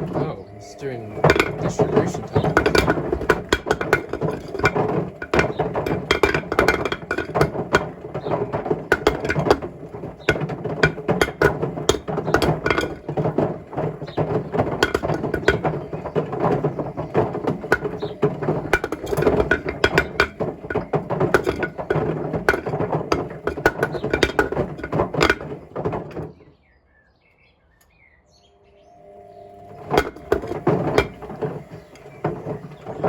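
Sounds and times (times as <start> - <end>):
brick knocking in washing machine drum: 0.0 - 26.5, 29.7 - 33.0
washing machine humming: 0.0 - 26.5, 28.3 - 33.0.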